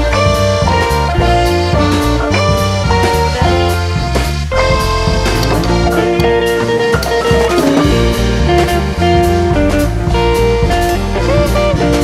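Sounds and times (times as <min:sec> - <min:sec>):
guitar music over steady beat: 0:00.0 - 0:12.0.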